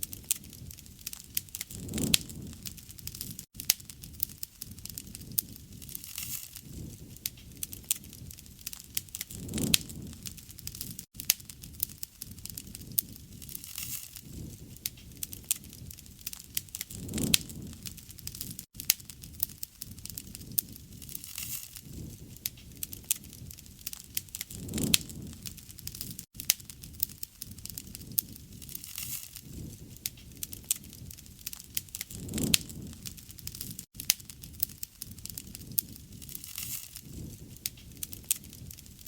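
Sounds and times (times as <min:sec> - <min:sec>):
low rush of flames: 0:00.0 - 0:39.0
wood fire crackling: 0:00.0 - 0:39.0.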